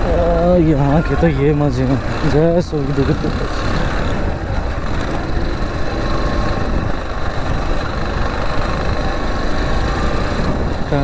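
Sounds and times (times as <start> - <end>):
motorcycle engine rumble: 0.0 - 11.0
road noise: 0.0 - 11.0.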